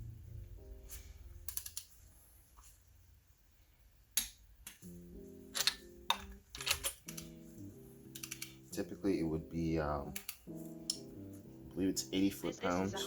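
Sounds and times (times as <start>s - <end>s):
soft keyboard music: 0.0s - 2.5s, 4.7s - 13.0s.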